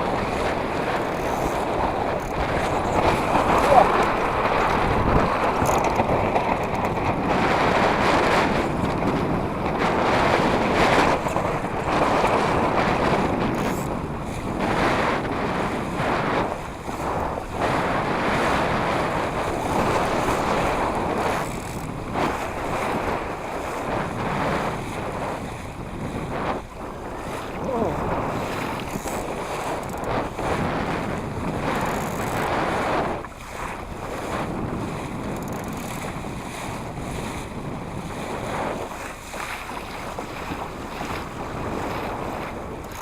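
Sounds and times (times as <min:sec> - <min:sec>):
water rushing and splashing: 0:00.0 - 0:34.6, 0:38.0 - 0:43.0
wind buffeting microphone: 0:00.0 - 0:43.0.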